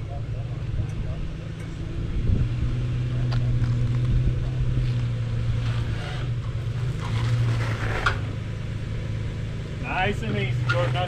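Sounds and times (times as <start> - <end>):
off-road vehicle engine at low revs: 0.0 - 11.0.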